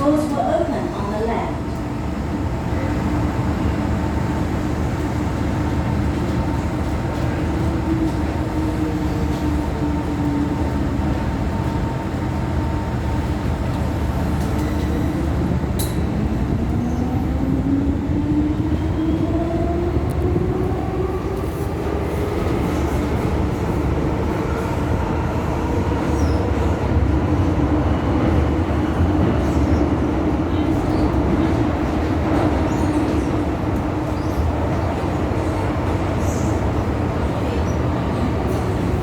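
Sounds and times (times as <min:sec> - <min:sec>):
train rail and wheel rumble: 0:00.0 - 0:39.0.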